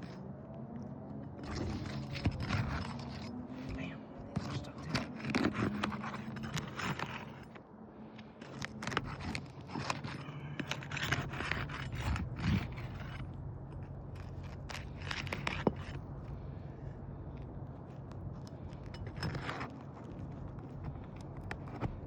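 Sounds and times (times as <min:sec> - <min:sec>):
steady low hum: 0:00.0 - 0:22.0
shingles scraping and crackling: 0:01.4 - 0:07.6, 0:08.2 - 0:22.0.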